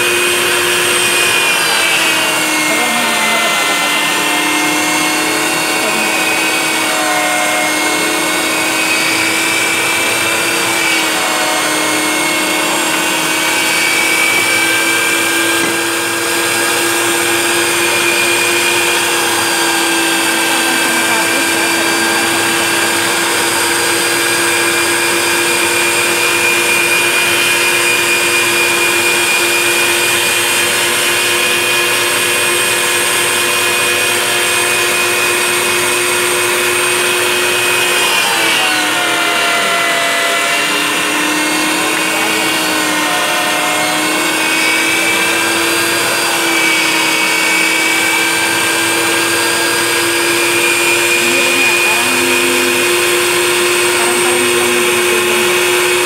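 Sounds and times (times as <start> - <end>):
meat grinder motor whining: 0.0 - 56.0.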